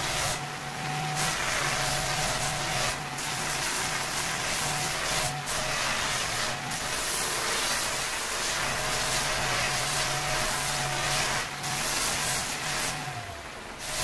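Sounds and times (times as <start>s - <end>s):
angle grinder motor whine: 0.0s - 14.0s
sanding pad hissing on stone: 0.0s - 14.0s.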